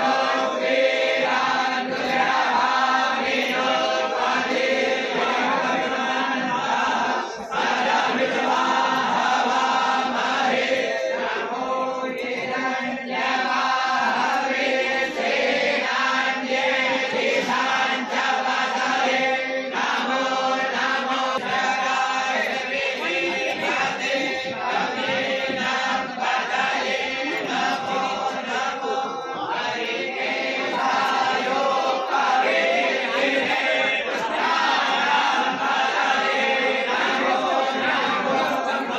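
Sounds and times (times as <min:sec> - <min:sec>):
voices chanting mantras: 0:00.0 - 0:38.9.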